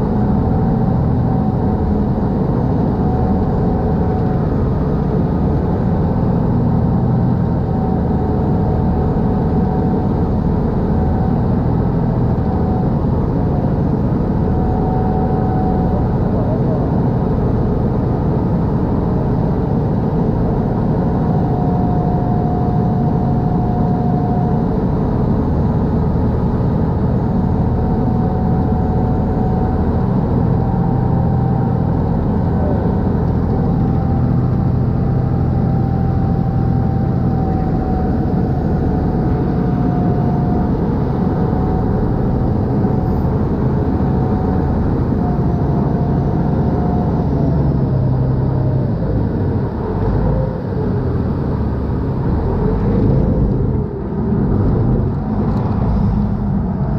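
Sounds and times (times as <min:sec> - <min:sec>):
boat diesel engine running: 0:00.0 - 0:56.9
wake rushing along hull: 0:00.0 - 0:56.9.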